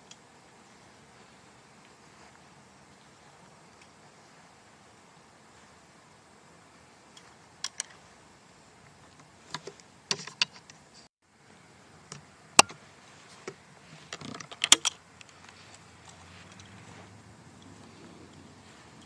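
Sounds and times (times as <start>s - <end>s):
faint hiss: 0.0s - 19.0s.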